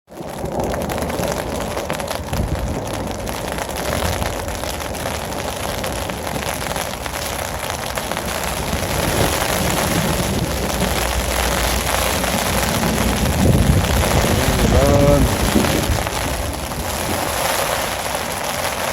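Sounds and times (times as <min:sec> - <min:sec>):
steady rain falling: 0:00.1 - 0:18.9.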